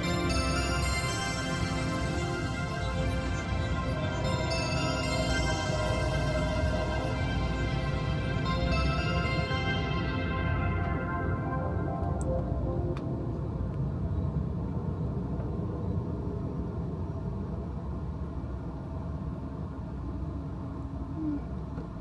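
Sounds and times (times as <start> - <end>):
passenger train rumble: 0.0 - 22.0.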